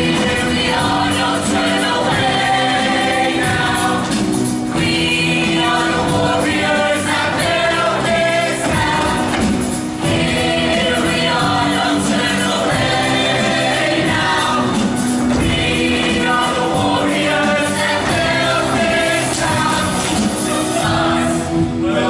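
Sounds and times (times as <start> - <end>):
mixed choir singing: 0.0 - 22.0.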